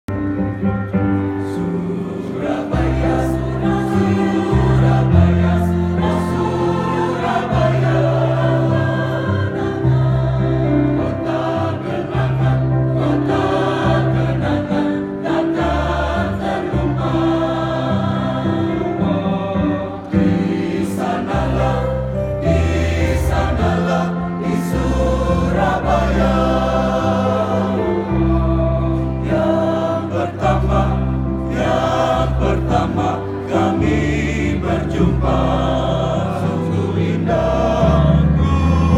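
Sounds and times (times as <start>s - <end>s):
group of voices singing in chorus: 1.2s - 38.9s.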